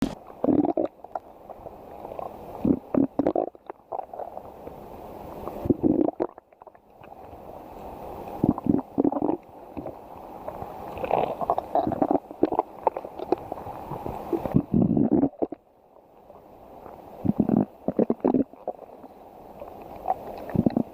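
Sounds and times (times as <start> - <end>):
stomach growling: 0.0 - 4.6, 5.4 - 7.2, 8.4 - 15.6, 16.3 - 20.9.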